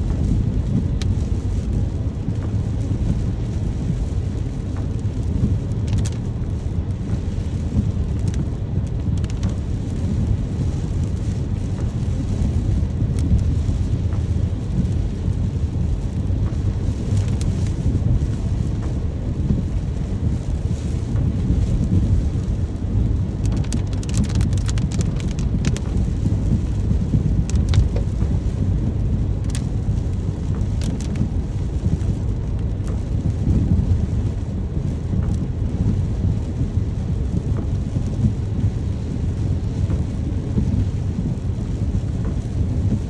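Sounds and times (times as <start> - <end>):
continuous low rumble: 0.0 - 43.0
steady rain: 0.0 - 43.0.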